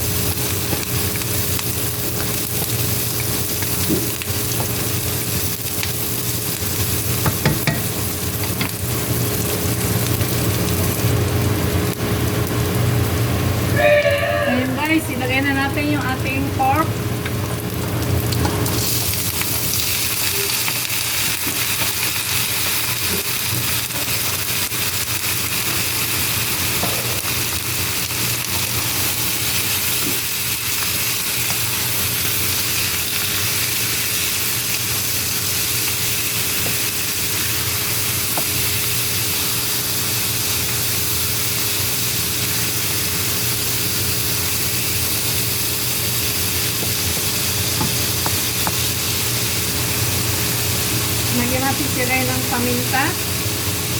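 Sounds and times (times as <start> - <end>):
meat sizzling in hot oil: 0.0 - 13.9, 14.8 - 53.9.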